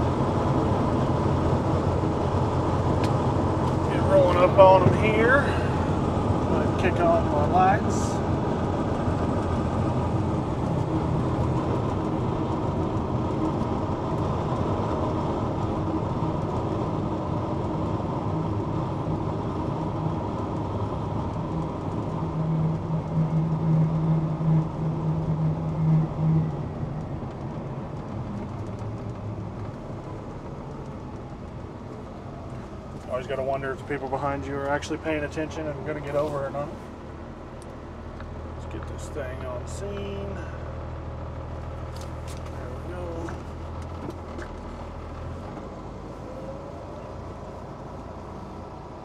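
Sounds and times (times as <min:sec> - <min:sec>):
truck engine and tyres droning: 0:00.0 - 0:49.0.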